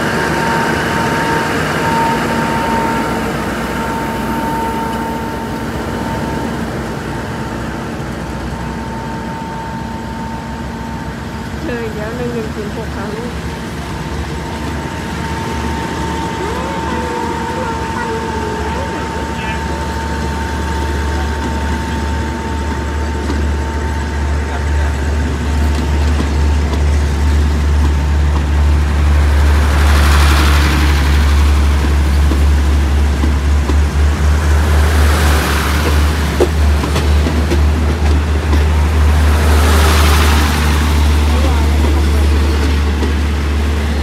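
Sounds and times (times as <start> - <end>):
train coaches rolling past: 0.0 - 44.0
wheels rushing on rails: 0.0 - 44.0.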